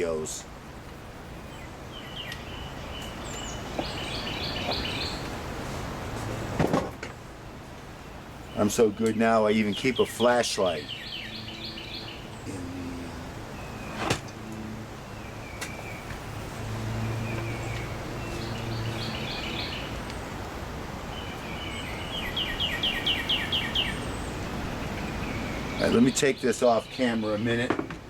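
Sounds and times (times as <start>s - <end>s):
outdoor background noise: 0.0s - 28.0s
songbirds chirping: 0.0s - 28.0s.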